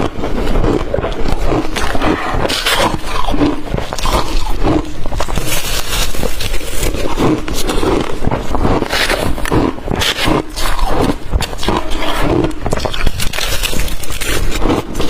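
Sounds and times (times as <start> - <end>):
crunching and chewing ice: 0.0 - 15.0
swallowing: 0.0 - 15.0.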